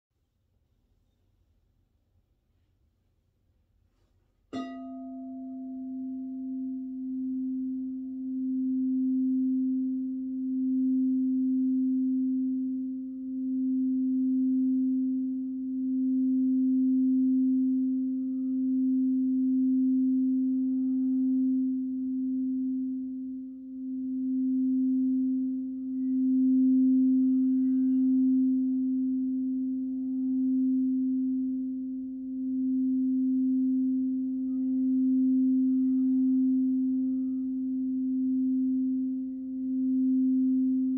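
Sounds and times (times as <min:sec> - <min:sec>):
singing bowl tone: 0:04.5 - 0:40.9.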